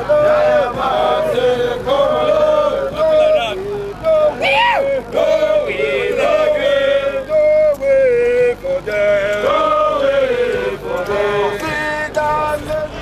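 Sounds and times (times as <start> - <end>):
troops singing marching song: 0.0 - 13.0.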